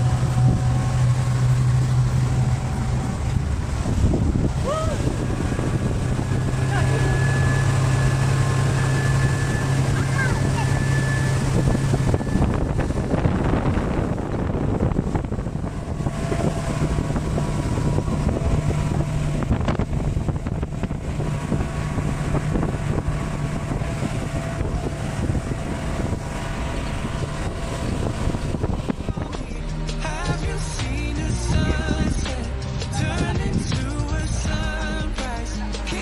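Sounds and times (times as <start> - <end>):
wind buffeting microphone: 0.0 - 34.8
outboard motor drone: 0.0 - 36.0
water rushing past hull: 0.0 - 36.0.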